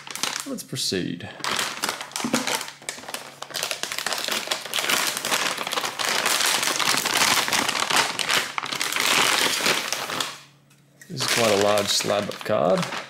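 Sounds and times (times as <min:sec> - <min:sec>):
plastic bag crinkling: 0:00.0 - 0:00.6, 0:01.4 - 0:10.4, 0:11.1 - 0:13.0.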